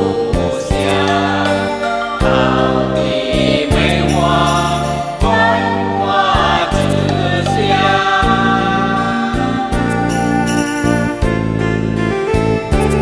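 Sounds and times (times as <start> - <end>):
group of voices singing: 0.0 - 11.0
held bass notes: 0.0 - 13.0
instrumental accompaniment: 0.0 - 13.0.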